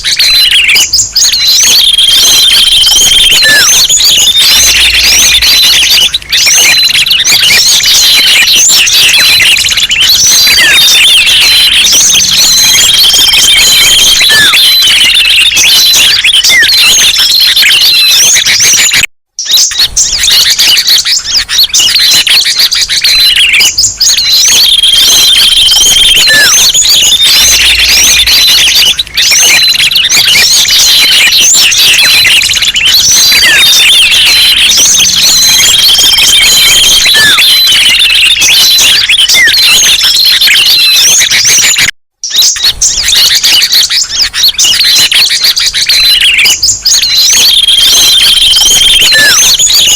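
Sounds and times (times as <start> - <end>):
held bird whistle: 0.0 - 49.9
songbirds chirping and twittering: 0.0 - 49.9.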